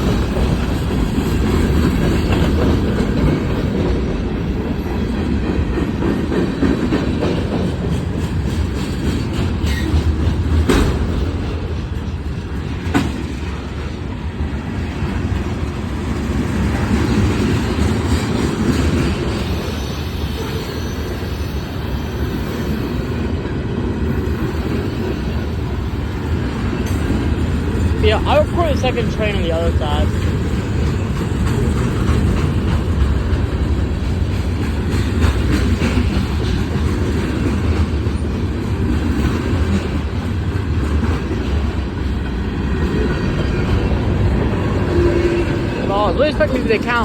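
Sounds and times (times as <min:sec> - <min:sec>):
train cars rumbling on track: 0:00.0 - 0:47.0.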